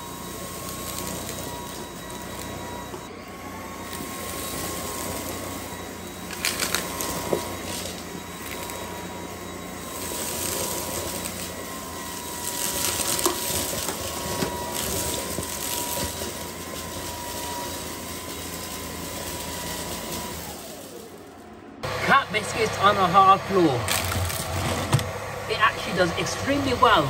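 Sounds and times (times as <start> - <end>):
debris crackling in vacuum: 0.0 - 21.4, 23.8 - 26.8
stick vacuum whining: 0.0 - 27.0.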